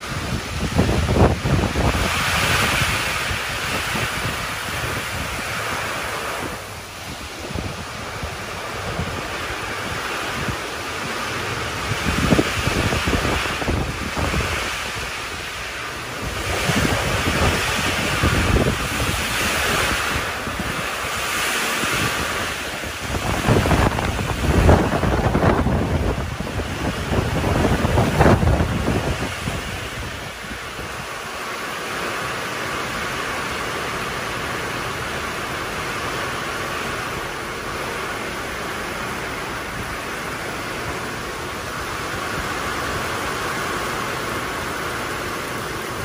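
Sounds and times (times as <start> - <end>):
heavy rain: 0.0 - 46.0
strong gusting wind: 0.0 - 46.0
wind buffeting microphone: 0.0 - 46.0.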